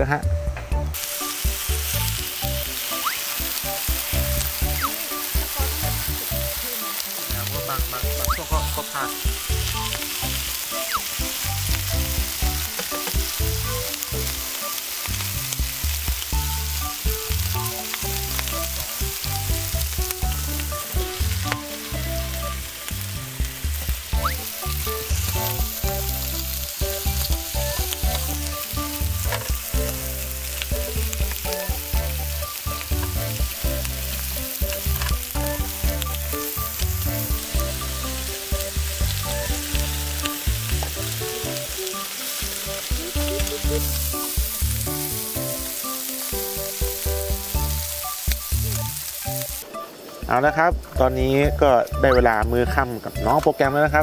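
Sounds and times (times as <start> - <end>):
background music with bass: 0.0 - 54.0
pork sizzling on grill pan: 0.9 - 54.0.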